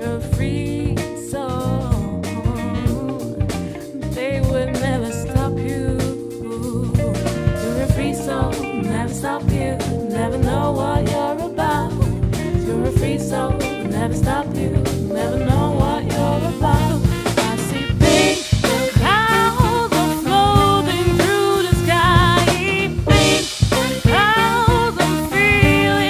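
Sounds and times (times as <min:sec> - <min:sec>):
electric bass: 0:00.0 - 0:26.0
drum kit beat: 0:01.9 - 0:26.0
live band playing: 0:01.9 - 0:26.0.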